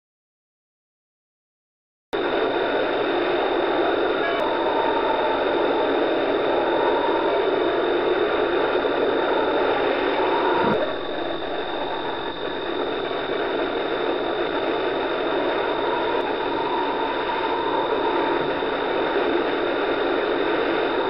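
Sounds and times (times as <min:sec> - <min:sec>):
constant high whine: 0:02.2 - 0:21.0
storm noise from television: 0:02.2 - 0:21.0.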